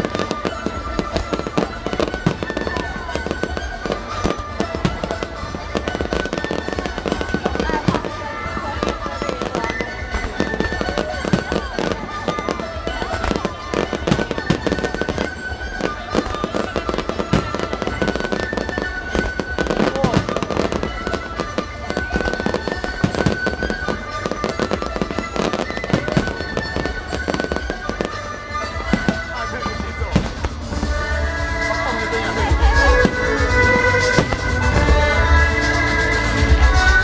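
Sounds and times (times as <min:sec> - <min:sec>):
fireworks bangs and crackles: 0:00.0 - 0:37.0
music playing: 0:00.0 - 0:37.0.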